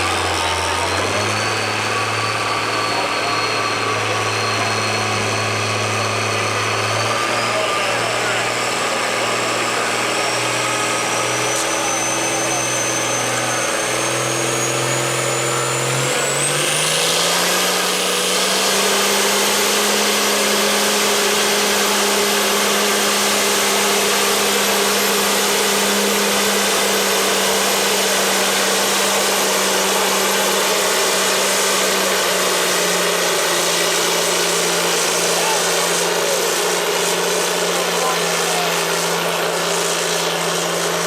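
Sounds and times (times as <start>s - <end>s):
tractor engine revving: 0.0s - 41.0s.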